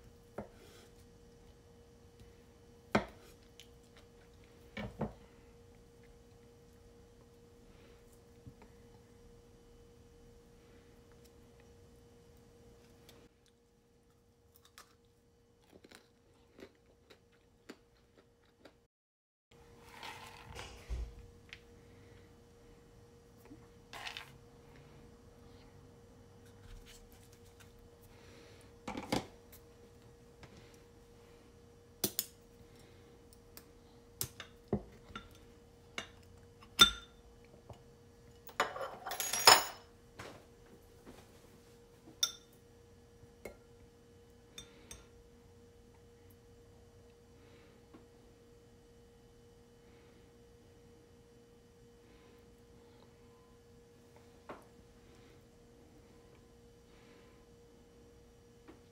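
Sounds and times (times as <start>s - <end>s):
faint steady hum: 0.0s - 18.9s, 19.5s - 58.9s.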